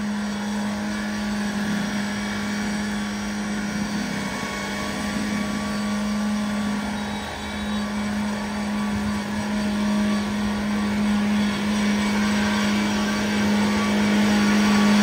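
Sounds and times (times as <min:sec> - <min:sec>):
car engine at high revs: 0:00.0 - 0:15.0
wheels churning through mud: 0:00.0 - 0:15.0.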